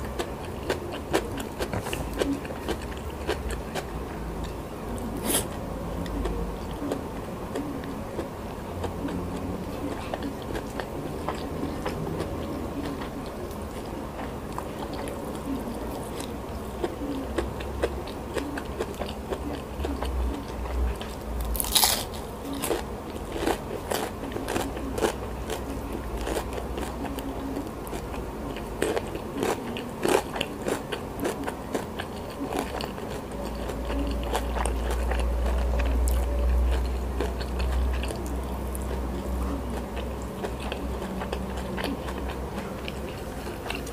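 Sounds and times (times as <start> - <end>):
crunchy chewing: 0.0 - 43.9.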